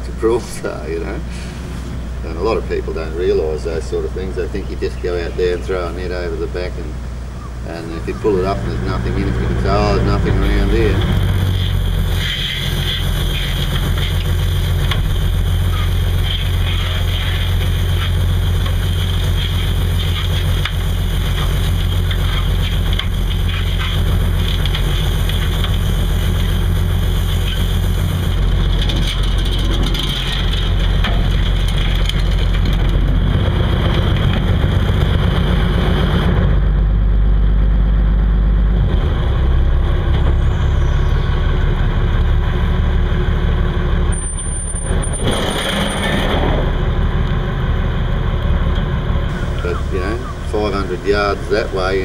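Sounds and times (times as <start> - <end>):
boat engine drone: 0.0 - 52.0
wind: 0.0 - 52.0.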